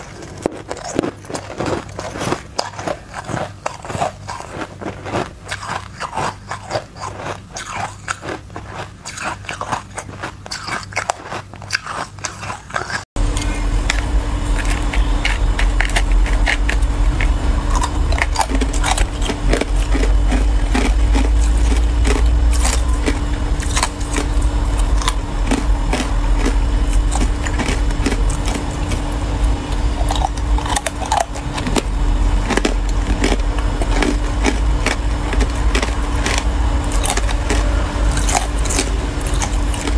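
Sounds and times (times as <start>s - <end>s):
ice being bitten and crunched: 0.0s - 13.5s, 14.5s - 39.9s
steady low hum: 0.0s - 39.9s.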